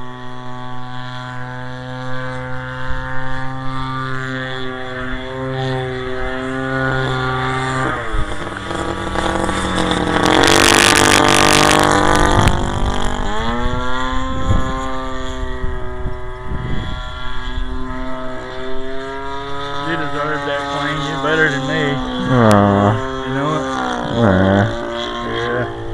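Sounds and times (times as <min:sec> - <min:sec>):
model airplane engine drone: 0:00.0 - 0:25.9.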